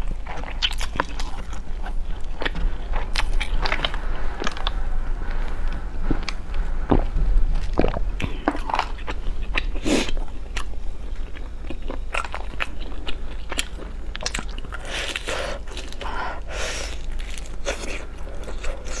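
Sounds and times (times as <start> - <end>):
crunchy chewing of fried food: 0.0 - 19.0.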